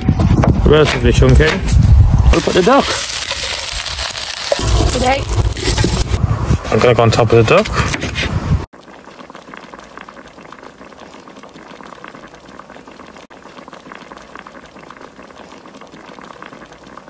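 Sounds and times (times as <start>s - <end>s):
pot bubbling and sizzling: 0.0s - 17.0s.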